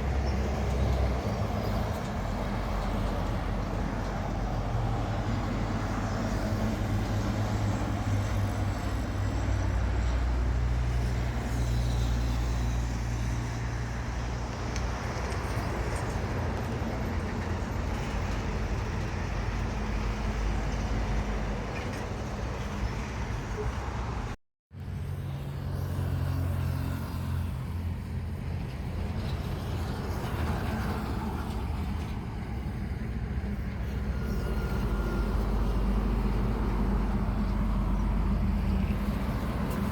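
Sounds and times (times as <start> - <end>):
low rumble of traffic: 0.0 - 39.9.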